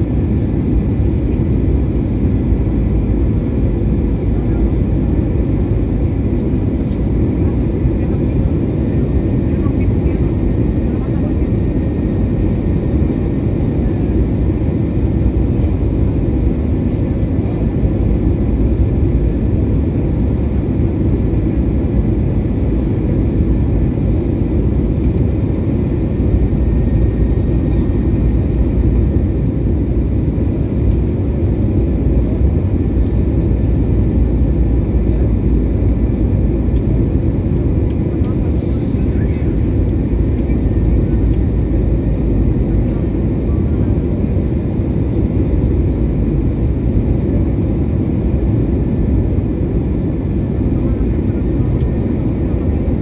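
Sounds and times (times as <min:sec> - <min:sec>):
airliner low rumble: 0:00.0 - 0:53.0.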